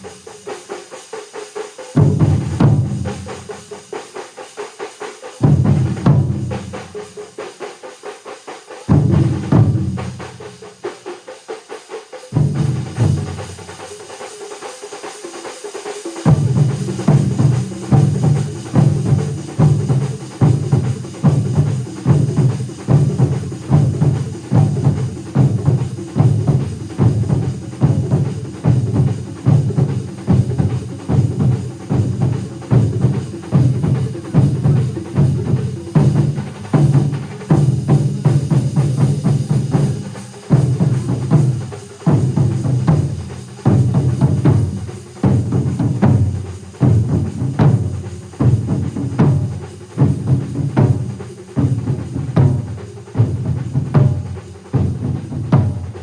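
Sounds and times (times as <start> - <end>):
drum ensemble playing: 0.0 - 56.0.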